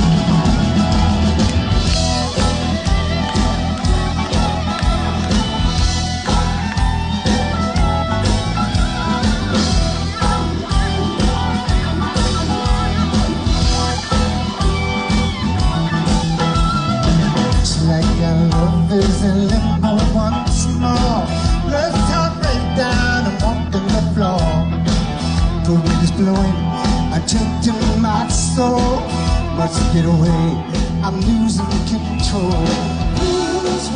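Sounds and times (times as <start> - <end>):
rock band playing: 0.0 - 33.9.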